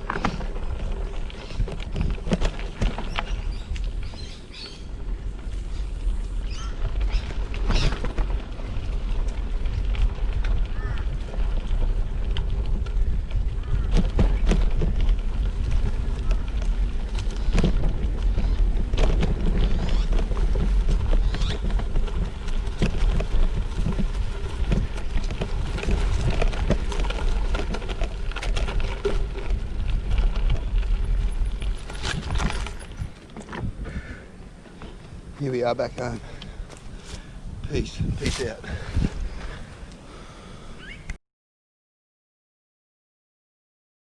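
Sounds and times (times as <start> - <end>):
wind buffeting microphone: 0.0 - 40.5.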